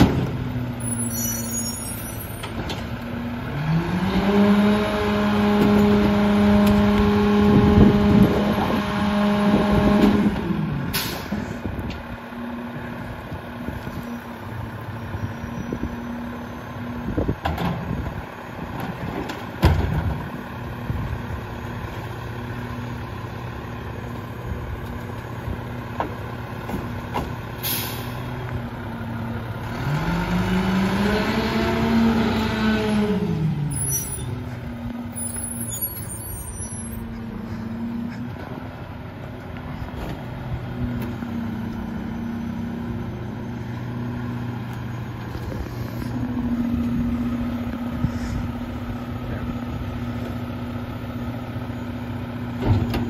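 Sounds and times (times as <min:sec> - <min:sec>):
garbage truck engine: 0:00.0 - 0:53.0.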